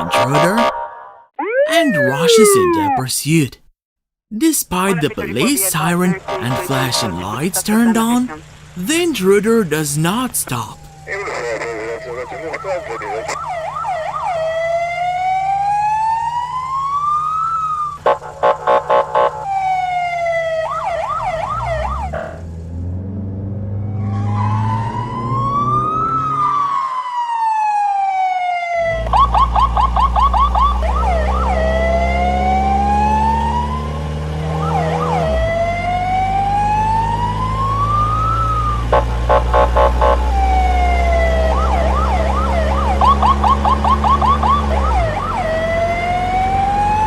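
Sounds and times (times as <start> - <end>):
cartoon police siren wailing: 0.0 - 3.5, 4.5 - 22.4, 23.6 - 47.0
low engine hum: 4.8 - 26.7, 28.8 - 47.0.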